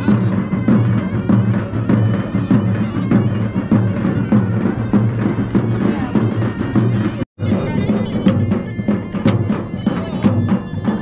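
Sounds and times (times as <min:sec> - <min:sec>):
hand drums: 0:00.0 - 0:11.0
reedy wind instrument: 0:00.0 - 0:11.0.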